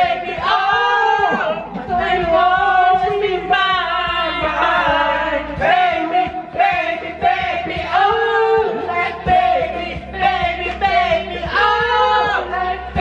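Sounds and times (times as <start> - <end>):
karaoke backing track: 0.0 - 13.0
men singing karaoke: 0.0 - 13.0.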